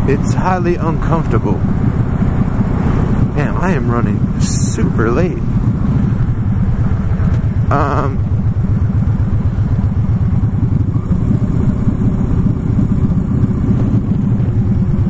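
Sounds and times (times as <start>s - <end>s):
motorcycle engine exhaust rumble: 0.0s - 15.0s.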